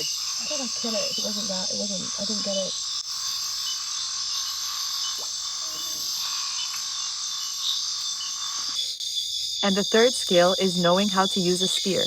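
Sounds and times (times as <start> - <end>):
frogs and insects trilling: 0.0 - 12.0.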